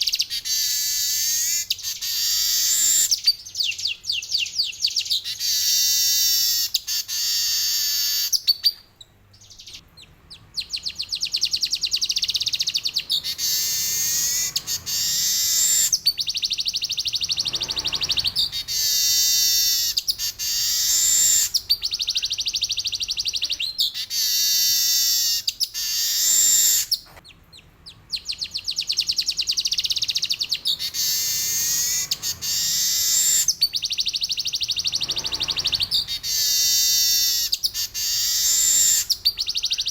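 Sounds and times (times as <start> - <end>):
weaver bird singing buzzy trills: 0.0 - 39.9.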